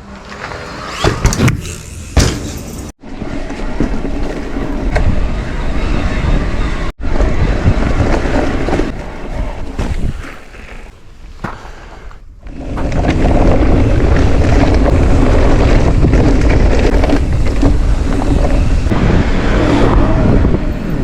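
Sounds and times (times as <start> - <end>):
bike rumble and rattle: 0.0 - 21.0
wind buffeting microphone: 4.1 - 21.0.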